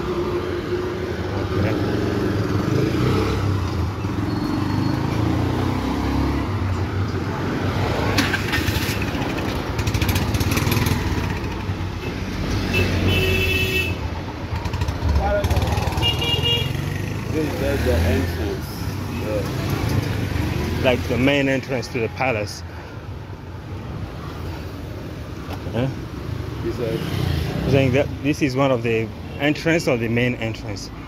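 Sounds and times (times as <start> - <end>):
auto-rickshaw engines passing: 0.0 - 31.0.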